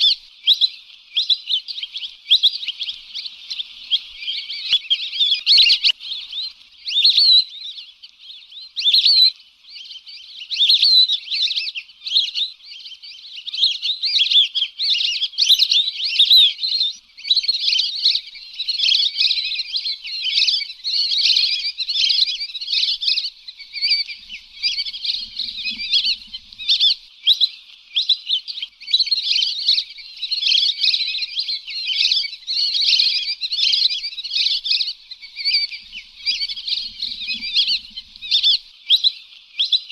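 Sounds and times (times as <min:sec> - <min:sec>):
ducks whistling calls: 0:00.0 - 0:39.9.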